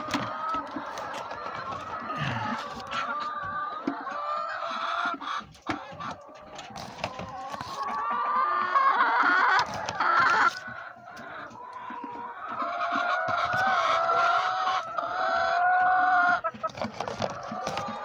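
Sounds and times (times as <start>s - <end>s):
long drawn-out chicken call: 0.0s - 16.6s
chickens clucking: 0.0s - 18.0s.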